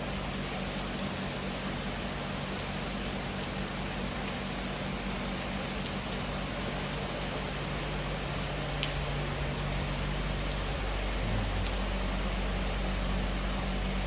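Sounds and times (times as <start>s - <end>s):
close raindrops ticking: 0.0s - 14.0s
rain hissing on roofs and foliage: 0.0s - 14.0s.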